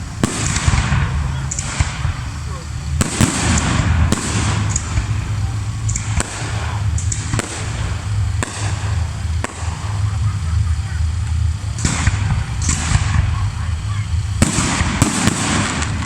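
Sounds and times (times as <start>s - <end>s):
crackling of bursting shells: 0.0s - 10.2s, 11.0s - 13.4s, 14.1s - 16.0s
fireworks sharp bangs: 0.0s - 16.0s
low rumble: 0.0s - 16.0s.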